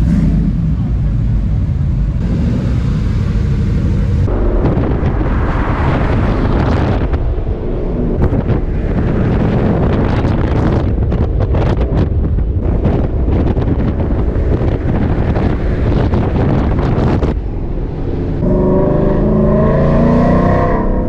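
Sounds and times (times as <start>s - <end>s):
car engine low rumble: 0.0s - 21.0s
wind buffeting microphone: 3.0s - 21.0s.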